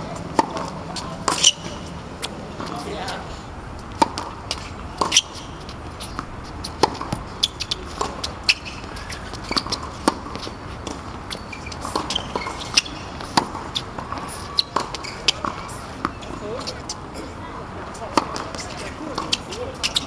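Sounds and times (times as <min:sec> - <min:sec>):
tennis ball bouncing: 0:00.0 - 0:17.1, 0:17.9 - 0:20.0
tennis ball struck by rackets: 0:00.1 - 0:16.7, 0:18.0 - 0:20.0.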